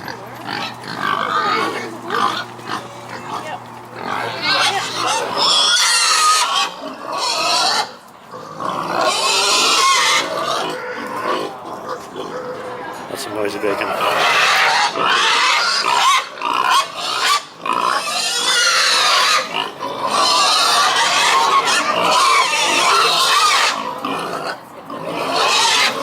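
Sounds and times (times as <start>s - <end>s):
pigs squealing: 0.0s - 12.9s, 13.6s - 26.0s.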